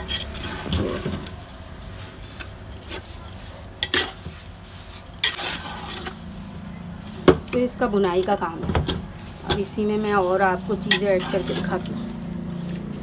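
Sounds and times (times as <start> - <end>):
metal spoon scraping a pot: 0.0 - 6.4, 7.5 - 13.0.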